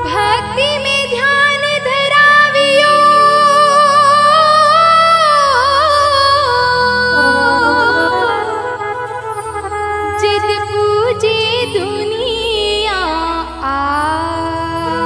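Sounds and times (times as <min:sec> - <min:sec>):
harmonium accompaniment: 0:00.0 - 0:15.0
woman singing devotional song: 0:00.0 - 0:15.0.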